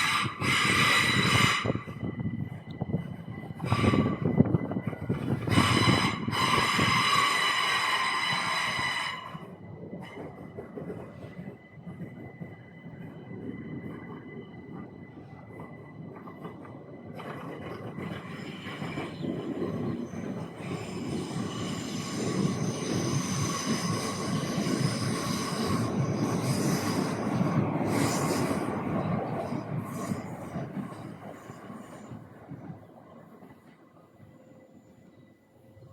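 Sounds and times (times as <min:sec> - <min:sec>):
train rumbling past: 0:00.0 - 0:35.9.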